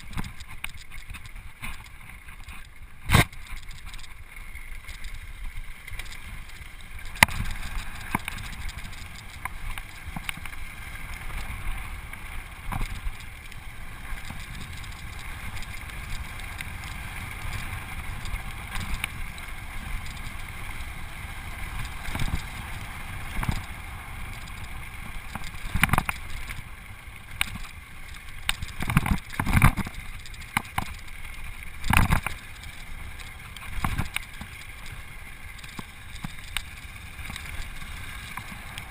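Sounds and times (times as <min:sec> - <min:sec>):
bike tyre and wind noise: 0:00.0 - 0:38.9
bike clacking over bumps: 0:04.8 - 0:38.9.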